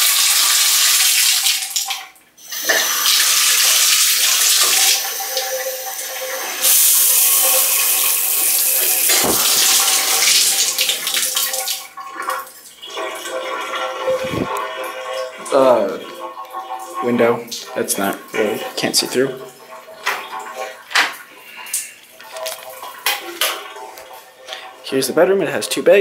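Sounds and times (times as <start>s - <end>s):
tap water rushing into bathtub: 0.0s - 26.0s.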